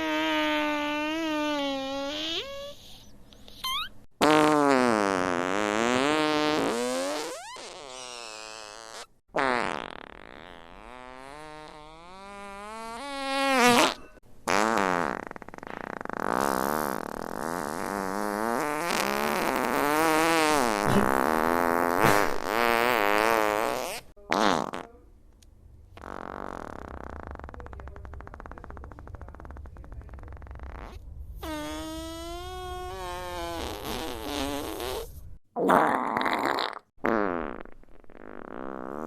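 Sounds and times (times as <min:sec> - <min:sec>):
fart sound effects: 0:00.0 - 0:25.0, 0:26.0 - 0:39.0.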